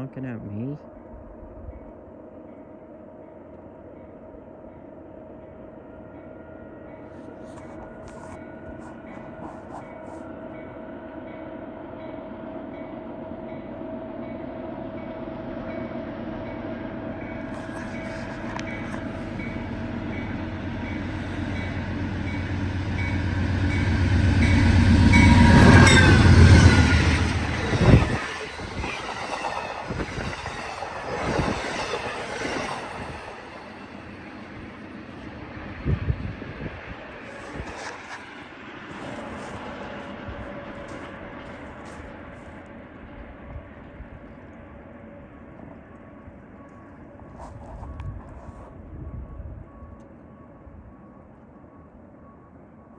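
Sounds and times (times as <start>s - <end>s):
passenger train passing: 0.0s - 52.9s.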